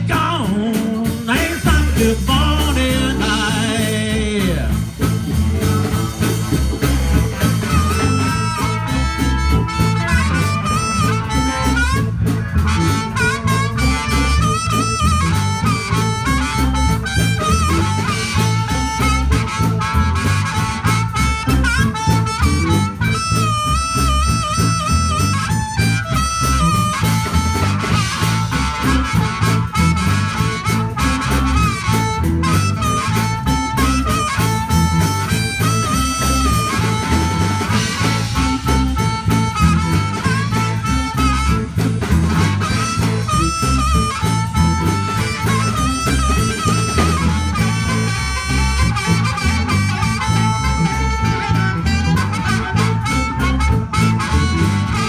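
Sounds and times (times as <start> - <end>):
live blues band instrumental: 0.0 - 55.0.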